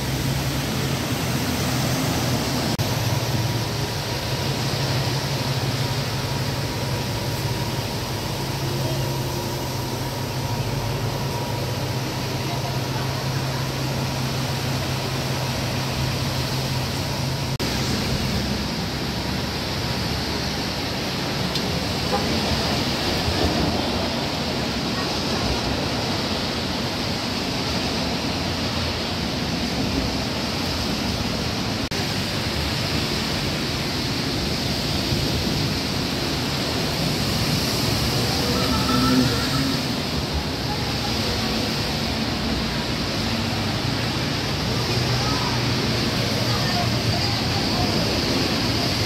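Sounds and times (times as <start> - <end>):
rain: 0.0 - 49.0
tyres swishing through floodwater: 0.0 - 49.0.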